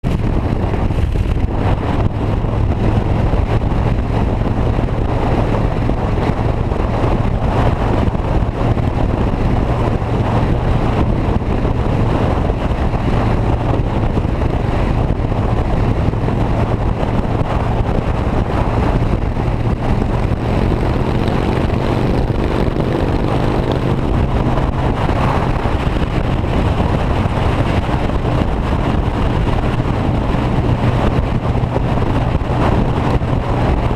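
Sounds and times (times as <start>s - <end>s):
vehicle engine drone: 0.0s - 33.9s
wind on microphone: 0.0s - 33.9s.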